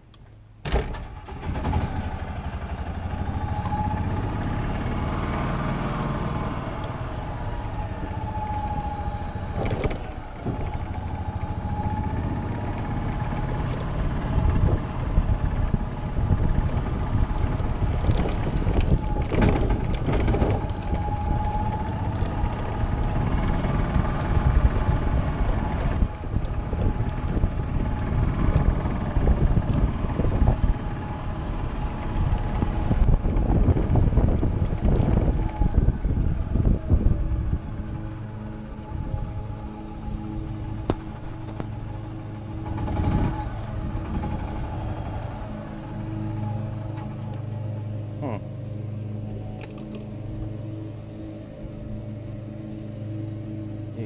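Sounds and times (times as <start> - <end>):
utility vehicle driving: 0.0 - 54.0
wavering whine: 0.0 - 54.0.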